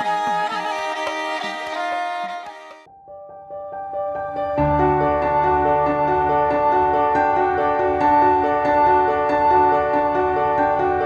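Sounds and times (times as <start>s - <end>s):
keyboard playing over sustained tones: 0.0s - 11.0s.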